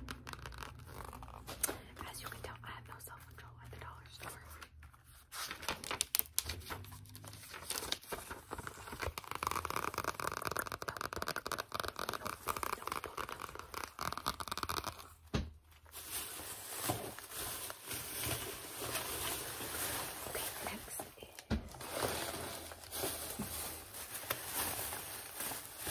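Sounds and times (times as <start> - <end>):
soft paper rustling: 0.0 - 15.1, 15.7 - 25.9.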